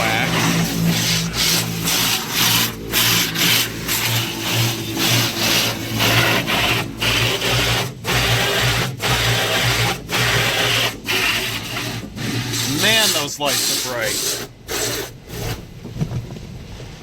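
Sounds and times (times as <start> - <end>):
steady low hum: 0.0 - 16.7
car wash swishing and scrubbing: 0.0 - 17.0.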